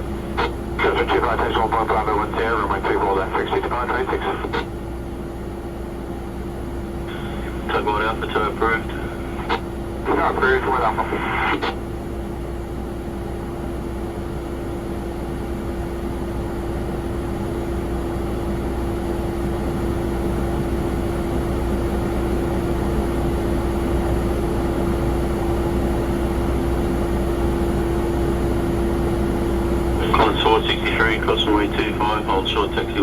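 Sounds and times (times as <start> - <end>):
jet aircraft hum and rumble: 0.0 - 33.0.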